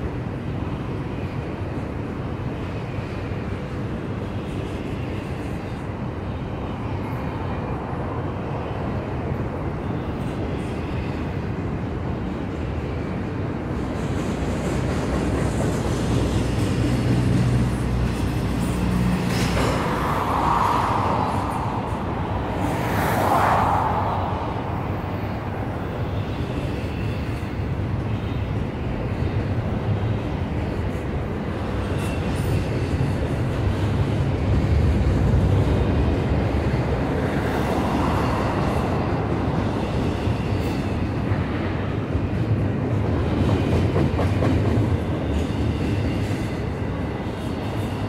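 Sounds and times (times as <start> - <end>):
freight train rumbling and clattering: 0.0 - 48.0.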